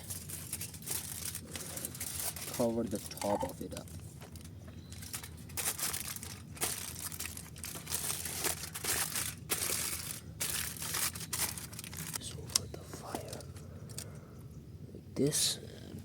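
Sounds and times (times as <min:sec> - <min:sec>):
aluminium foil crinkling: 0:00.0 - 0:14.1.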